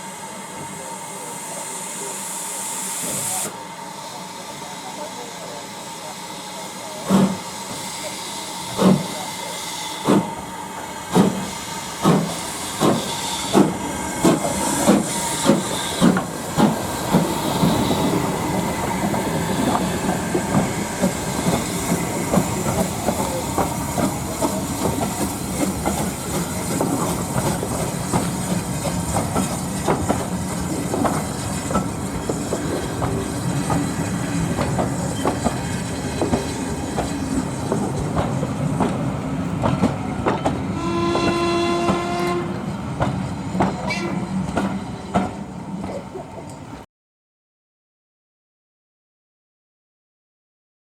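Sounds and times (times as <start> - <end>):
steam hissing: 0.0 - 42.5
steam locomotive exhaust beats: 0.0 - 46.0
train rumbling past: 3.4 - 46.8.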